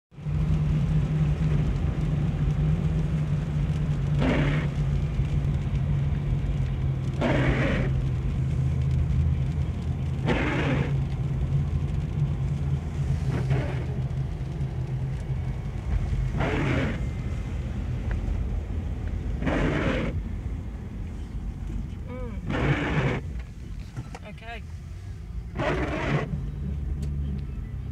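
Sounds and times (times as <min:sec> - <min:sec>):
engine and road hum: 0:00.1 - 0:27.9
windscreen wipers swishing: 0:00.2 - 0:27.9.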